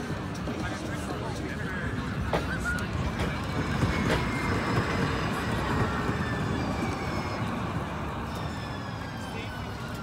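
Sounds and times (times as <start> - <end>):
light-rail train passing: 0.0 - 10.0.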